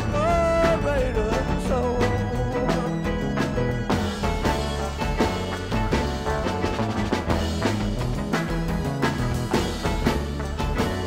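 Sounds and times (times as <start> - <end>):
drum and cymbal hits: 0.0 - 11.0
electric bass: 0.0 - 11.0.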